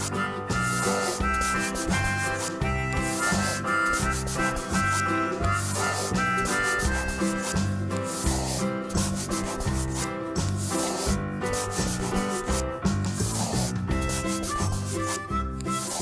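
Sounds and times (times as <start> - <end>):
background music with bass line: 0.0 - 16.0
coloring scribbled on paper: 0.0 - 16.0.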